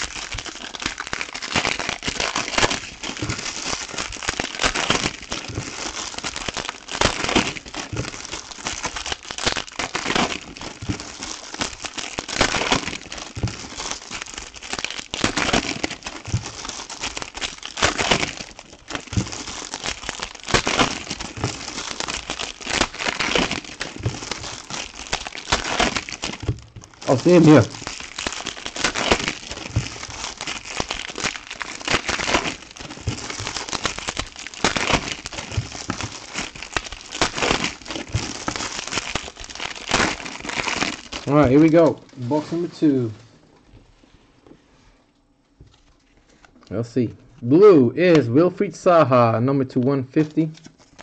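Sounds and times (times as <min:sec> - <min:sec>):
foil wrappers crinkling: 0:00.0 - 0:43.7, 0:49.8 - 0:51.0.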